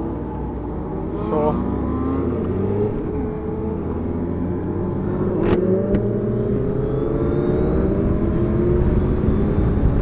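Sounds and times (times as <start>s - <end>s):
motorcycle engine accelerating: 0.0s - 10.0s
wind and road rumble: 0.0s - 10.0s.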